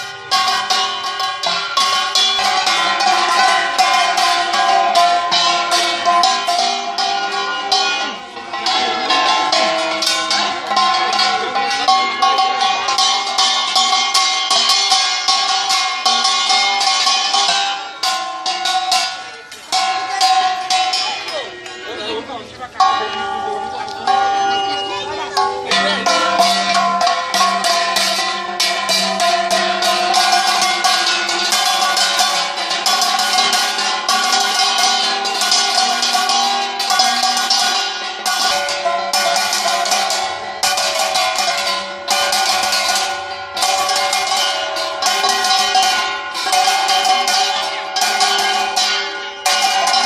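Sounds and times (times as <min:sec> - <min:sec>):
metal percussion strikes: 0:00.0 - 0:50.0
ringing metallic tones: 0:00.0 - 0:50.0.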